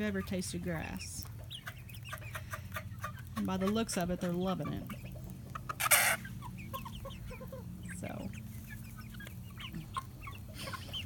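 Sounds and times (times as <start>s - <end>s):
chickens clucking and peeping: 0.0s - 11.0s.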